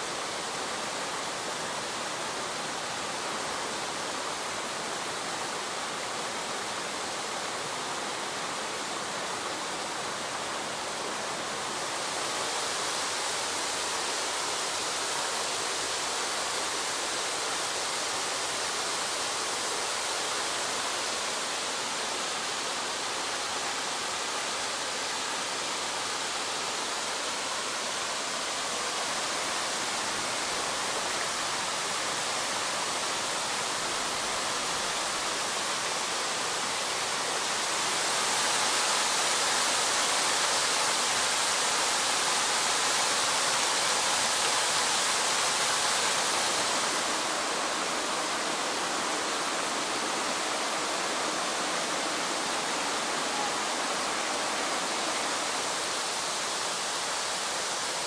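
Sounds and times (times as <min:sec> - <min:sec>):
waterfall rushing over rocks: 0:00.0 - 0:58.0.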